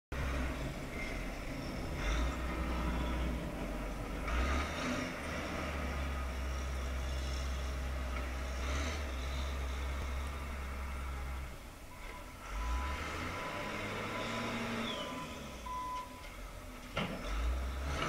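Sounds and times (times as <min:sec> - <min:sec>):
distant engine rumble: 0:00.1 - 0:18.0.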